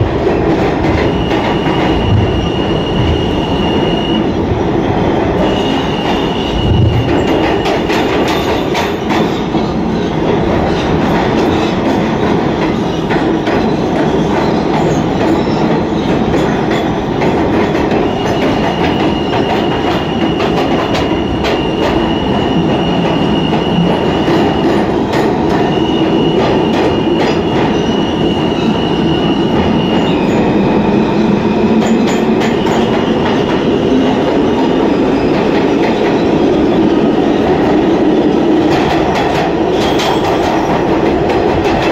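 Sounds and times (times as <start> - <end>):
subway car rumble: 0.0 - 41.9.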